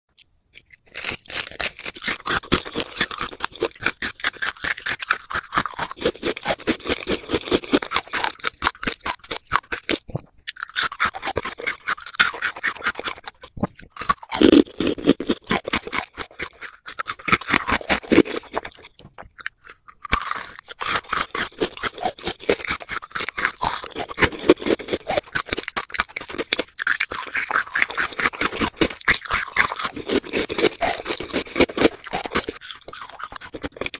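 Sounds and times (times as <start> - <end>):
chewing gummy candies: 0.2 - 33.9.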